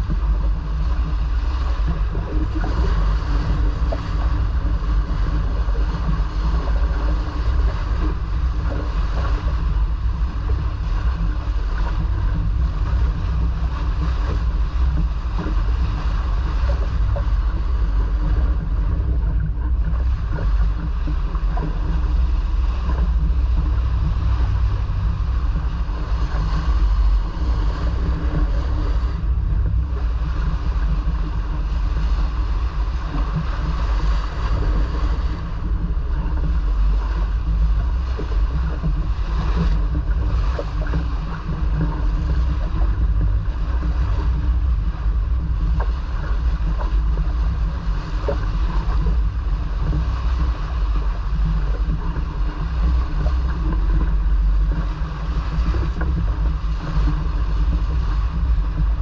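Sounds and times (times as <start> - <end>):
water rushing past hull: 0.0 - 59.0
wind rumbling on microphone: 0.0 - 59.0.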